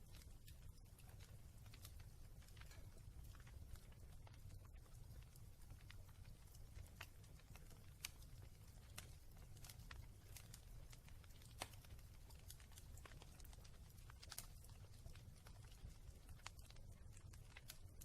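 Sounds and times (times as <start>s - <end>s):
fire crackling: 0.0s - 18.0s.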